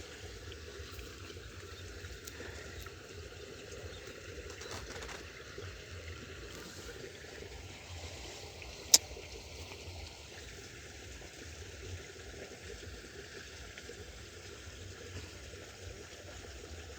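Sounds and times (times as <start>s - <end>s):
water trickling in a ditch: 0.0s - 16.9s.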